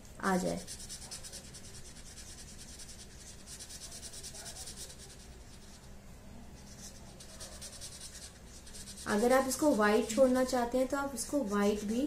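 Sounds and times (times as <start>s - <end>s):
felt-tip pen scratching on paper: 0.3s - 5.9s, 6.6s - 12.0s.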